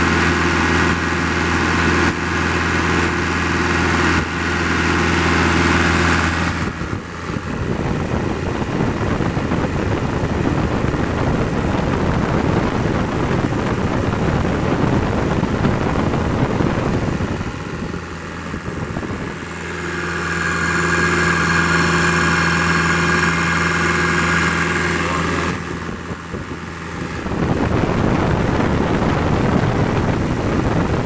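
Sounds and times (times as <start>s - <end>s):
diesel engine running: 0.0s - 31.0s
high whine: 0.0s - 31.0s.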